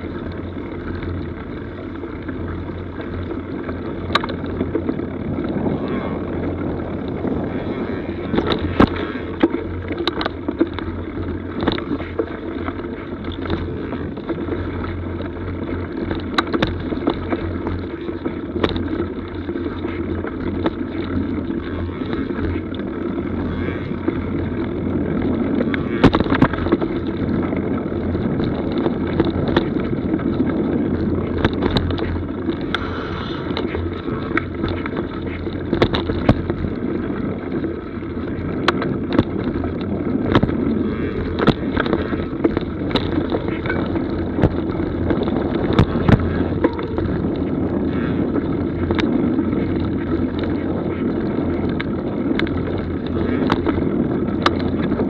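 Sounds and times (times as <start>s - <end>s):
bike knocking and rattling: 0.0s - 55.0s
bike tyres rumbling on dirt: 0.0s - 55.0s
wind on microphone: 0.0s - 55.0s.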